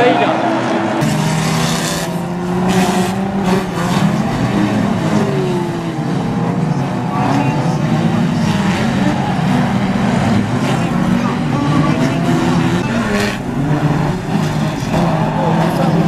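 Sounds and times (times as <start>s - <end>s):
race car engines revving: 0.0s - 16.0s
cars knocking together: 1.0s - 16.0s.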